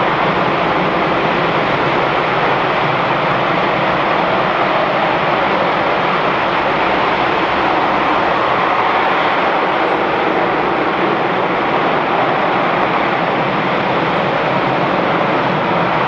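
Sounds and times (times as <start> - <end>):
rocket engine rushing roar: 0.0 - 16.0.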